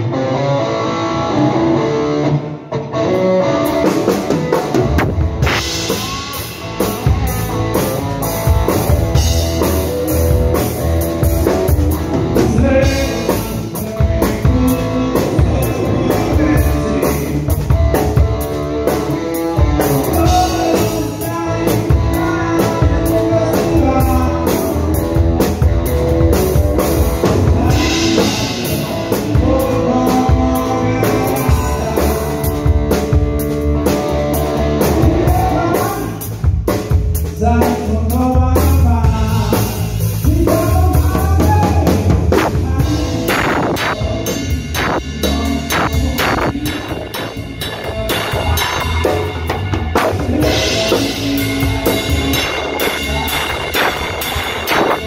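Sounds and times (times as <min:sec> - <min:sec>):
electric guitar: 0:00.0 - 0:55.0
rock band playing live: 0:00.0 - 0:55.0
drum kit beat: 0:03.6 - 0:55.0.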